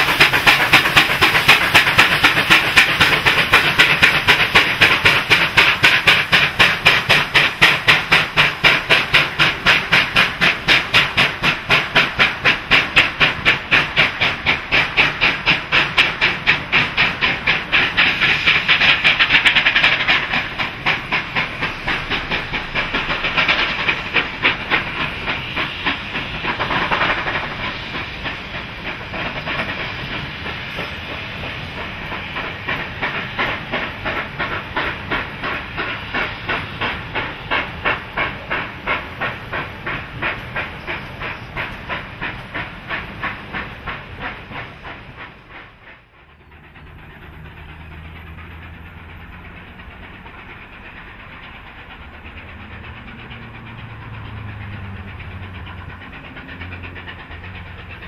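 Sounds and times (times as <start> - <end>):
steam hiss: 0.0 - 58.0
steam locomotive exhaust beats: 0.0 - 58.0
train wheels clacking over rail joints: 0.0 - 58.0.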